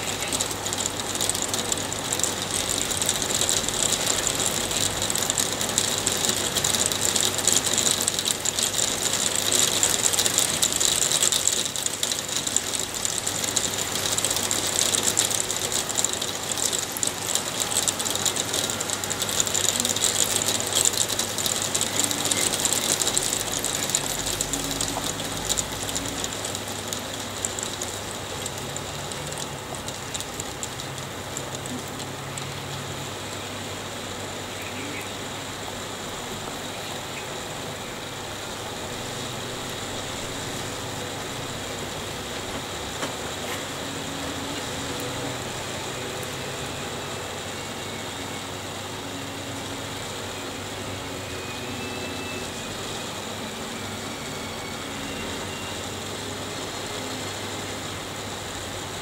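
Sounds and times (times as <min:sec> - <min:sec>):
hail striking hard surfaces: 0:00.0 - 0:37.6, 0:38.2 - 0:48.7.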